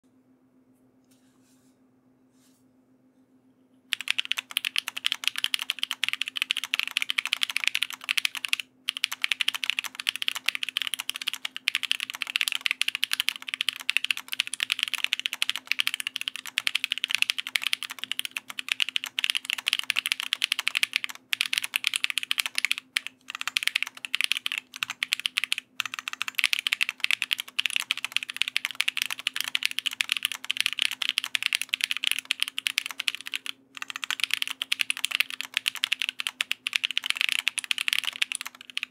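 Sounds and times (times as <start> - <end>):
mechanical keyboard typing: 3.9 - 38.9.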